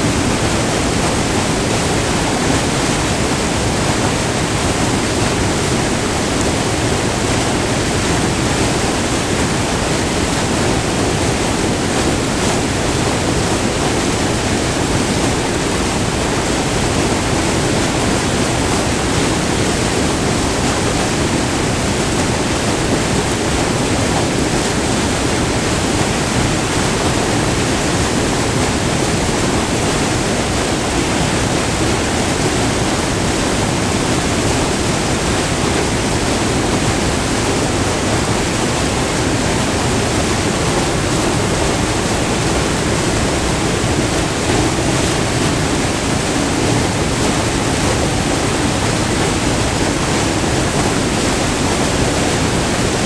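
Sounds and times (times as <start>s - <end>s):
waterfall roaring over rock: 0.0s - 53.0s.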